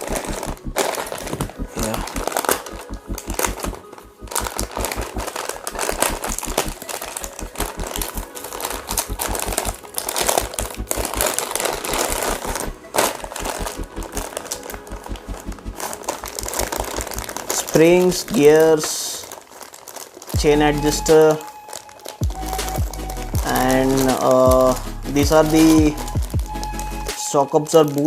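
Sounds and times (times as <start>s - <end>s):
background music with low beat: 0.0s - 18.8s, 20.2s - 28.0s
plastic packaging rustling: 0.0s - 28.0s.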